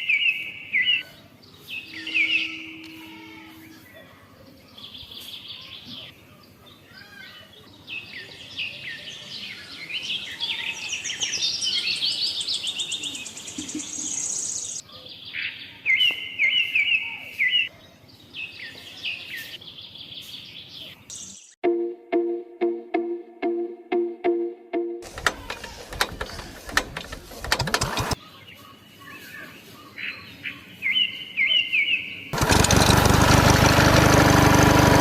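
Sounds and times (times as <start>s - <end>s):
songbirds chirping and trilling: 0.0s - 21.6s, 25.1s - 32.9s.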